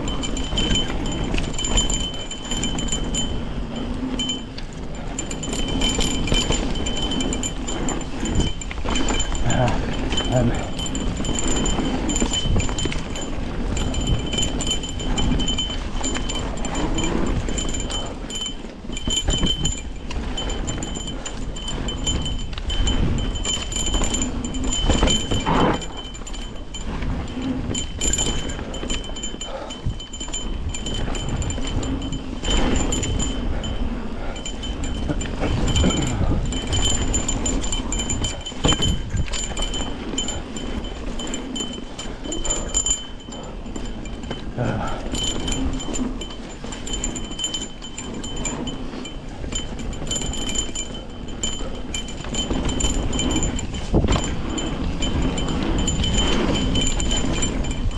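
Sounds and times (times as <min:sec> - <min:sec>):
bike clatter and rattle: 0:00.0 - 0:57.9
bike tyres rumbling on dirt: 0:00.0 - 0:57.9
wind rumble on microphone: 0:00.0 - 0:57.9.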